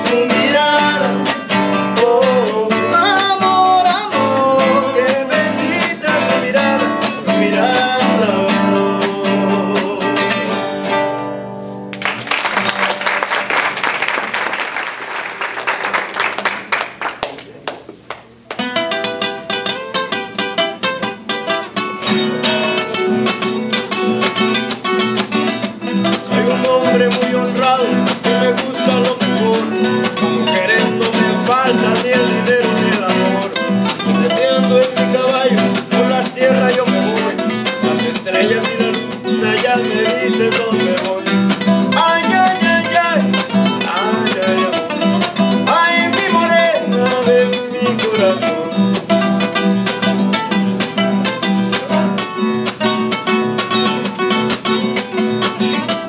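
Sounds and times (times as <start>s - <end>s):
acoustic guitars playing: 0.0s - 56.0s.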